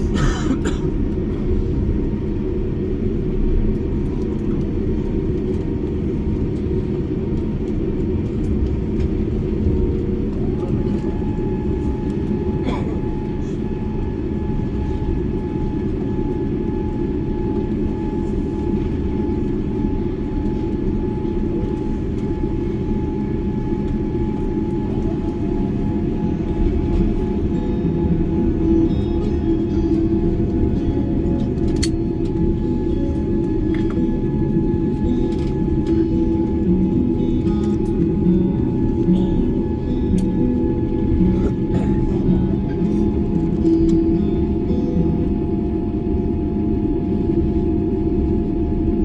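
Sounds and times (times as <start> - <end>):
airliner cabin rumble: 0.0 - 49.0.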